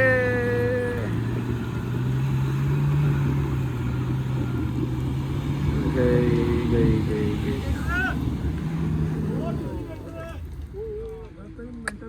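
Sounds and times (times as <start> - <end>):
vehicle engine pulling under load: 0.0 - 11.8.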